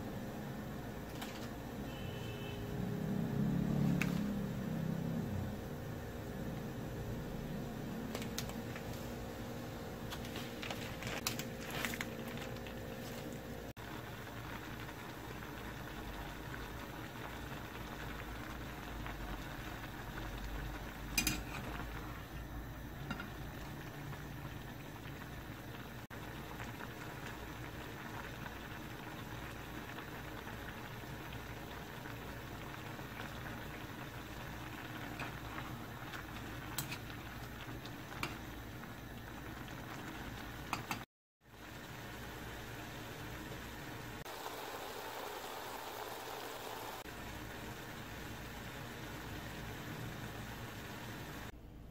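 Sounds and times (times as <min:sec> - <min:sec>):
sauce bubbling in a pot: 0:00.4 - 0:51.6.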